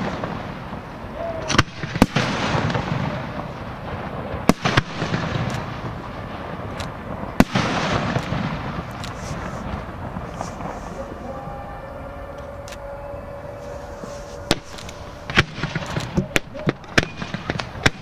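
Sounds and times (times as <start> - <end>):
small firework pops: 0.0 - 11.2, 14.4 - 18.0
continuous firework display noise: 0.0 - 18.0
firework shells bursting: 0.0 - 18.0.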